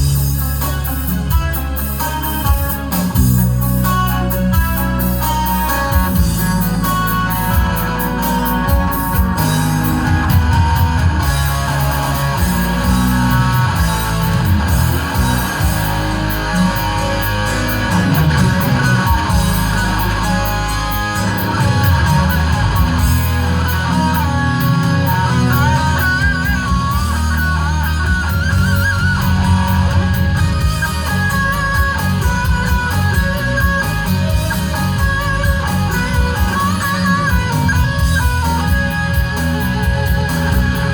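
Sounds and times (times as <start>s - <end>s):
bass guitar: 0.0s - 40.9s
distorted electric guitar lead: 0.0s - 40.9s
drums: 0.0s - 40.9s.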